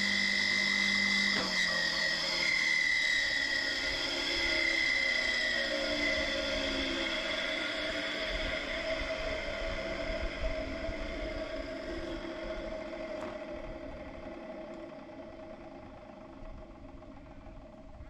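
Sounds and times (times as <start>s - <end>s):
garden mulcher motor hum: 0.0s - 18.0s.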